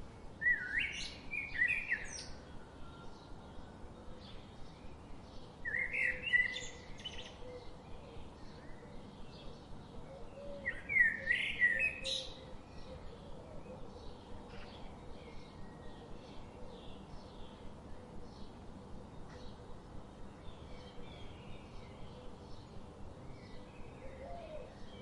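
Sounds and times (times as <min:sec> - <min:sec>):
faint bird chirping: 0:00.0 - 0:25.0.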